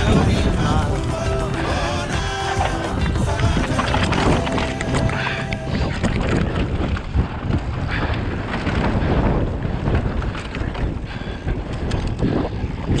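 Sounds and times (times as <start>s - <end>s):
bike rattles and clicks: 0.0s - 13.0s
low rumble of bike on trail: 0.0s - 13.0s
wind buffeting microphone: 0.0s - 13.0s.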